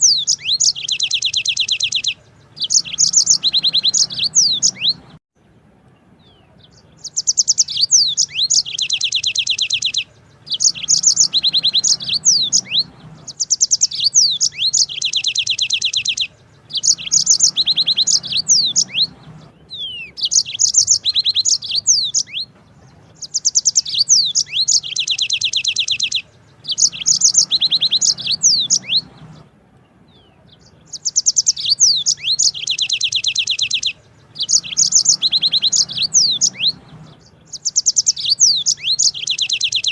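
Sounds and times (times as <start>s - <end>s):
canary singing trills: 0.0s - 5.2s, 5.9s - 39.9s.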